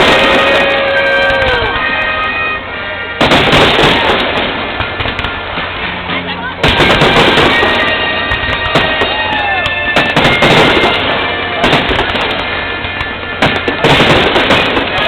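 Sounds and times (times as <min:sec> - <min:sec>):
fireworks booming and crackling: 0:00.0 - 0:15.0
music: 0:00.0 - 0:15.0.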